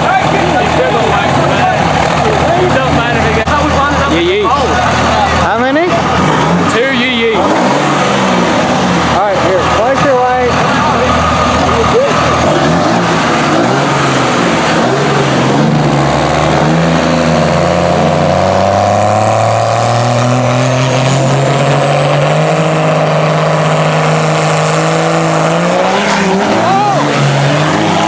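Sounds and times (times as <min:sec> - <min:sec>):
diesel truck engines revving: 0:00.0 - 0:28.0.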